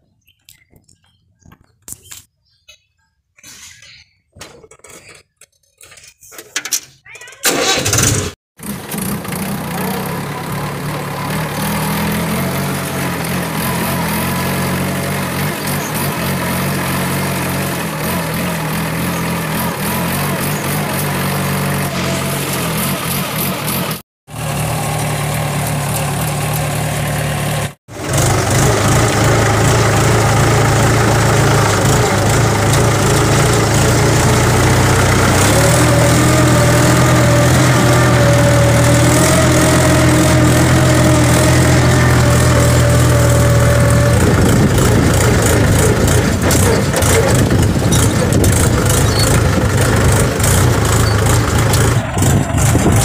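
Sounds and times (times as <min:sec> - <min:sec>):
tractor diesel engine running: 0:07.4 - 0:53.0.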